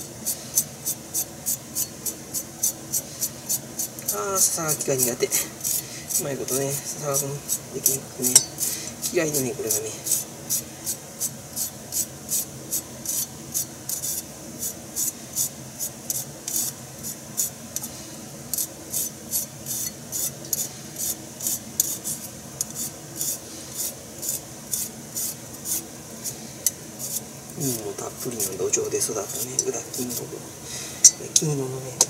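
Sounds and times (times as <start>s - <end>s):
knife scraping root: 0.0s - 17.9s, 18.5s - 30.3s.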